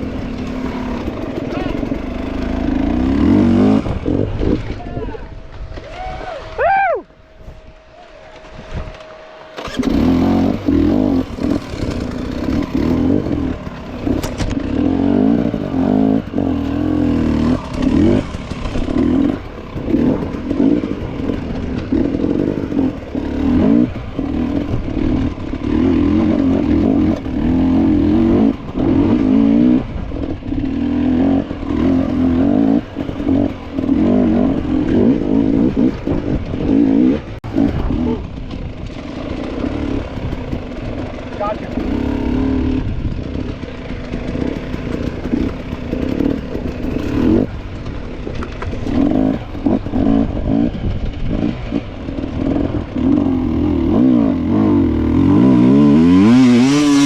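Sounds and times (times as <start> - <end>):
dirt bike engine revving: 0.0 - 5.6, 8.6 - 57.0.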